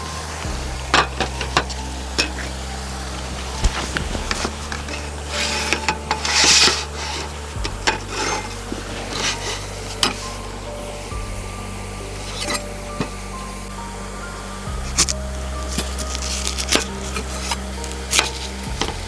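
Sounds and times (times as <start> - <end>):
rubbing and scraping handling sounds: 0.0 - 19.0
soft background music: 0.0 - 19.0.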